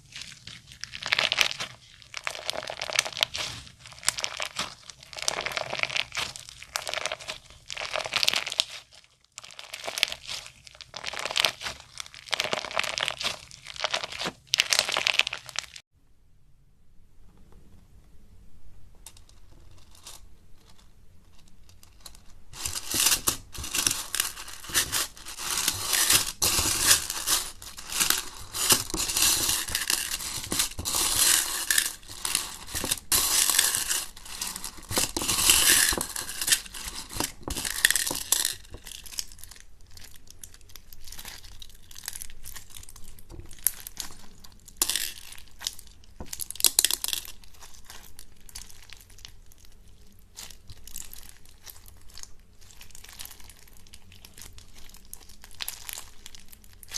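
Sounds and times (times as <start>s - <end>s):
slime crackling and crinkling: 0.0s - 15.8s, 19.1s - 56.9s.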